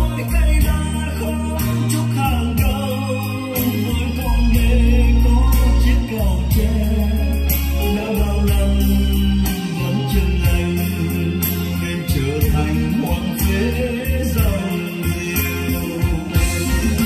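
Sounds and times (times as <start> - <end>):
deep bass notes: 0.0 - 17.0
person singing: 0.0 - 17.0.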